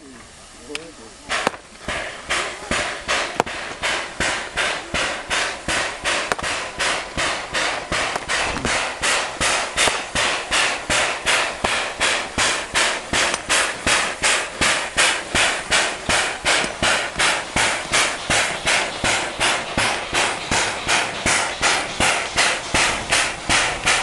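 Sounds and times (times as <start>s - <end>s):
steam locomotive exhaust chuffing: 0.0s - 24.0s.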